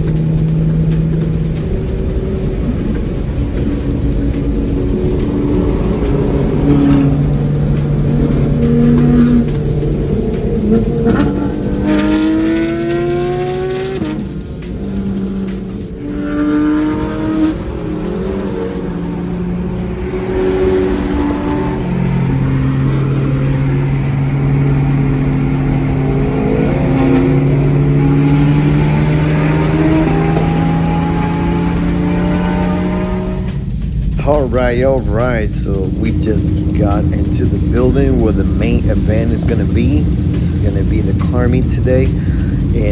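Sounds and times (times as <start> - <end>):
car engine accelerating: 0.0 - 42.9
road rumble: 0.0 - 42.9.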